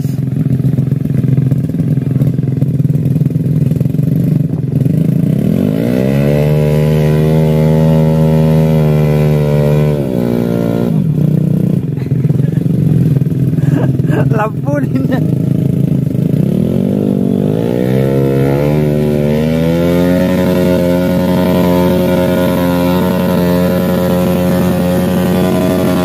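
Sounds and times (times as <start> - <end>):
small motorcycle engine revving: 0.0 - 26.0.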